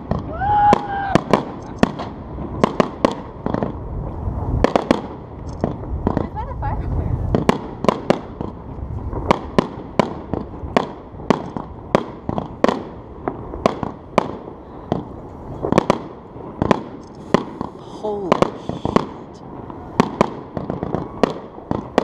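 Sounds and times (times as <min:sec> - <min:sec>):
fireworks bursting with sharp bangs: 0:00.0 - 0:22.0.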